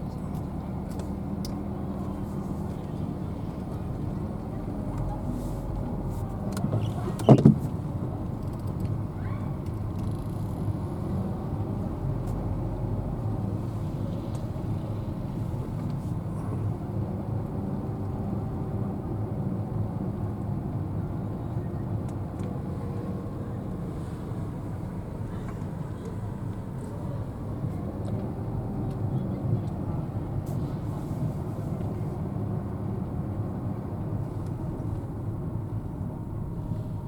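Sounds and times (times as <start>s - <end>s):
engine rumbling: 0.0s - 37.0s.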